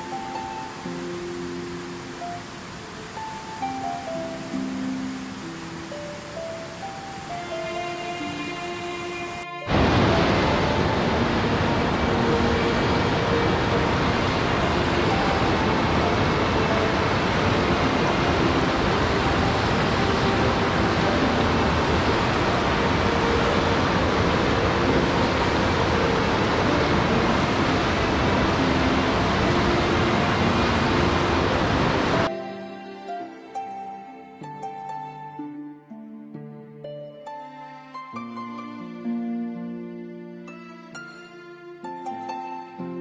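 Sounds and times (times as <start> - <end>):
water rushing: 0.0 - 35.5.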